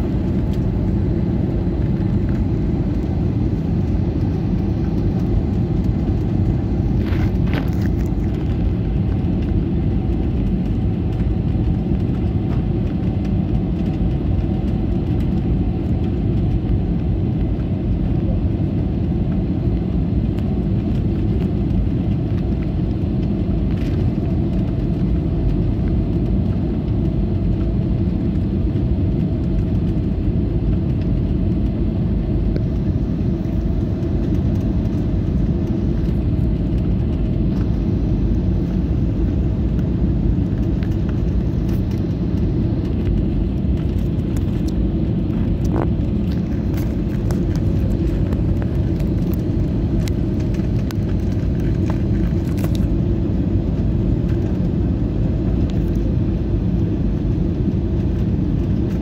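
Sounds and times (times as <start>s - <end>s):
faint steady hum: 0.0s - 59.0s
jet airliner cabin roar: 0.0s - 59.0s.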